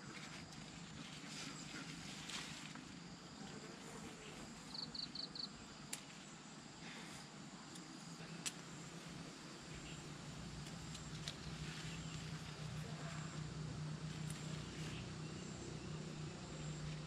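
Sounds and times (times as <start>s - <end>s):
faint insects buzzing: 0.0s - 17.0s.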